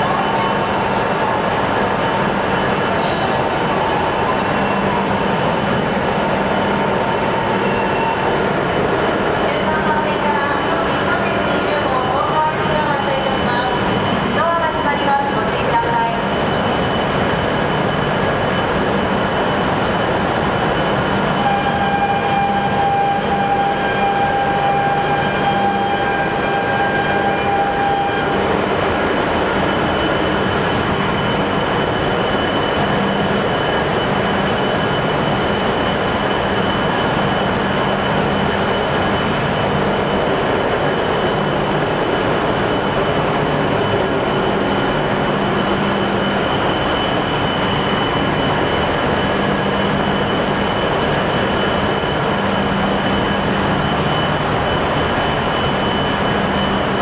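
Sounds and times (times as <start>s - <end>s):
train running on rails: 0.0s - 57.0s.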